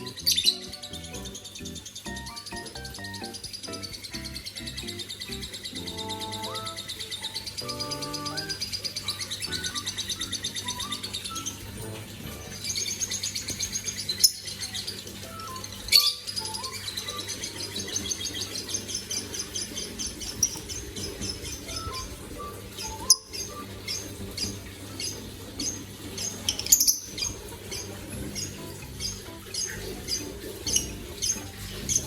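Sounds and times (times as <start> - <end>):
small bird chirping: 0.0 - 32.0.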